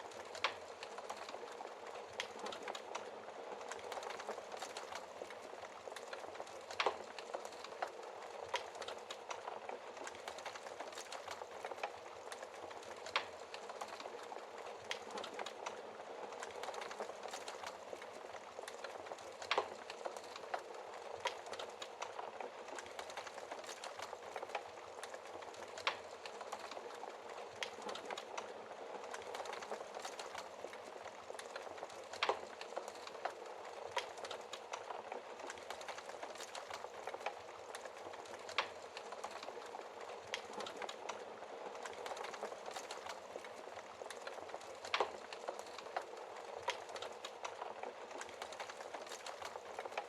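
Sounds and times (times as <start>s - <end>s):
fire crackling: 0.0s - 50.0s.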